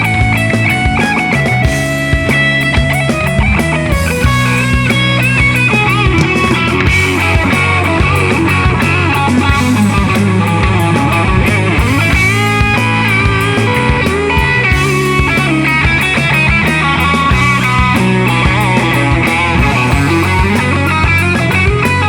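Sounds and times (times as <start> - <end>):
bass: 0.0 - 22.0
distorted electric guitar: 0.0 - 22.0
steady drum beat: 0.0 - 22.0.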